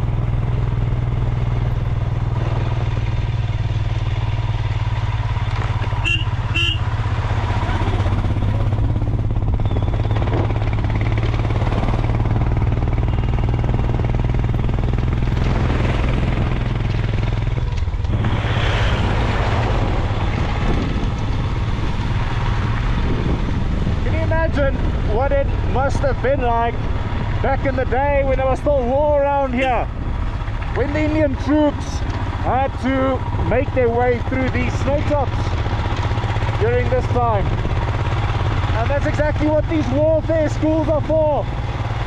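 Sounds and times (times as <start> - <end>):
motorcycle engine droning: 0.0 - 42.0.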